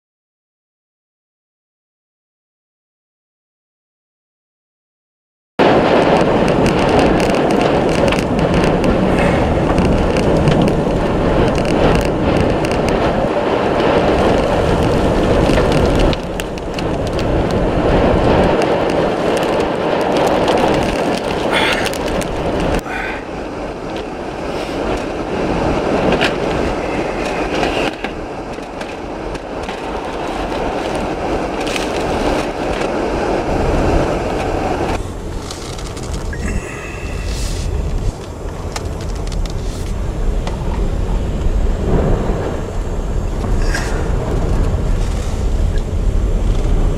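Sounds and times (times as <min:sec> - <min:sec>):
wind buffeting microphone: 0:05.6 - 0:46.9.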